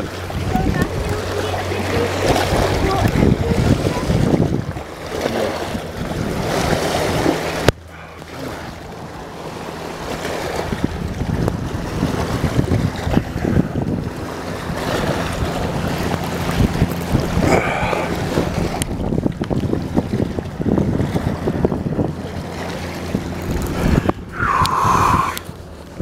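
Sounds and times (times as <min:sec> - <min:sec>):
choppy water: 0:00.0 - 0:26.0
steady low hum: 0:00.0 - 0:26.0
wind buffeting microphone: 0:00.0 - 0:26.0.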